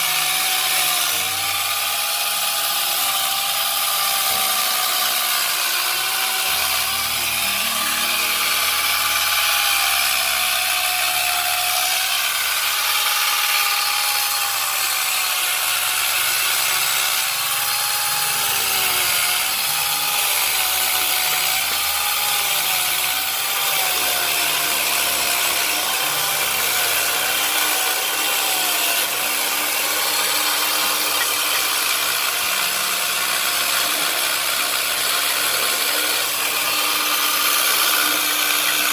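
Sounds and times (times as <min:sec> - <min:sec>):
power tool cutting wood: 0:00.0 - 0:38.9.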